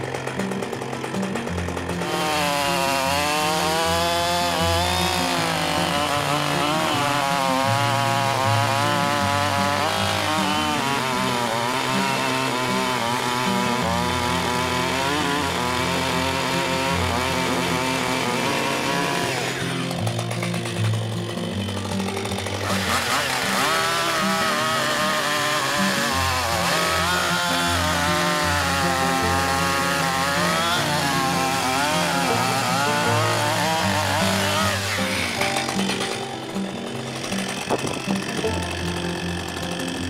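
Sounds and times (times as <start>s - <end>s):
chainsaw cutting through log: 0.0s - 40.0s.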